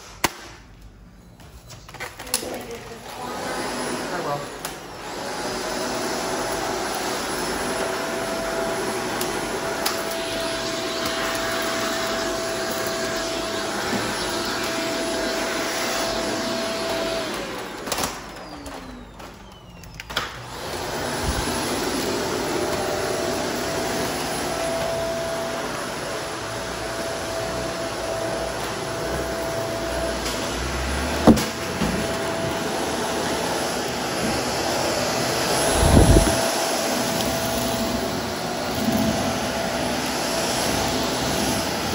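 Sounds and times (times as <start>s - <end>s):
vacuum cleaner motor whine: 2.0s - 41.9s.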